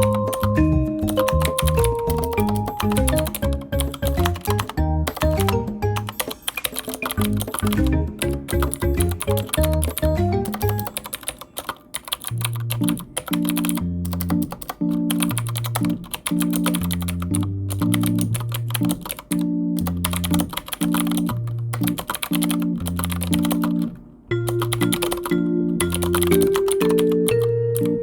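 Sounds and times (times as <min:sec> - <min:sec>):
background music: 0:00.0 - 0:11.0, 0:12.3 - 0:28.0
keyboard typing: 0:00.0 - 0:28.0.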